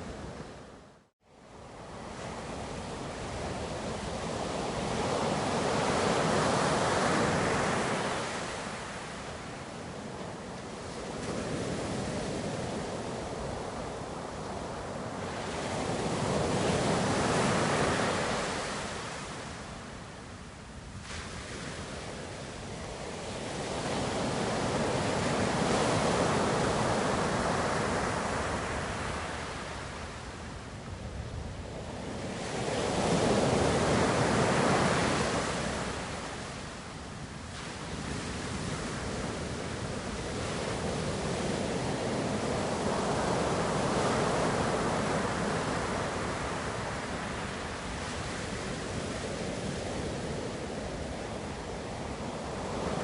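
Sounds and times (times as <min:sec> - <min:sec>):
ocean waves breaking on shore: 0:01.4 - 0:53.0.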